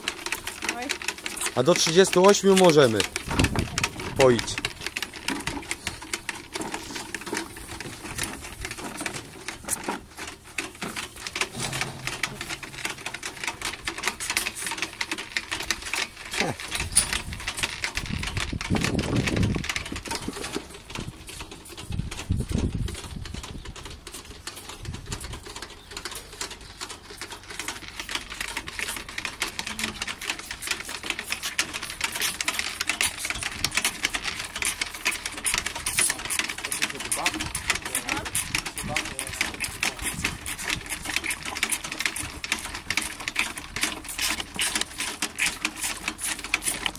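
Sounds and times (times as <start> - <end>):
calves slurping milk: 0.0 - 46.9.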